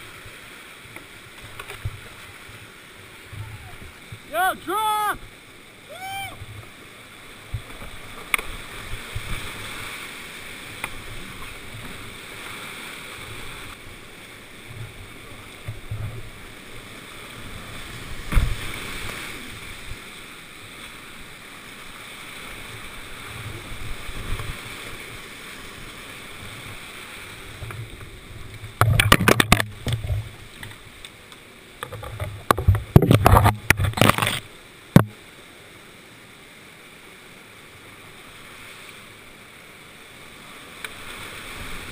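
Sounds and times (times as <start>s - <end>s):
paddle splashing: 0.0s - 35.2s
creek rushing over boulders: 0.0s - 41.9s.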